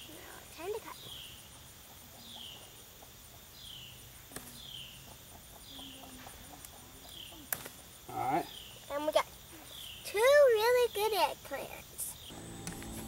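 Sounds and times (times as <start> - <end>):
faint high insect trill: 0.0 - 13.0.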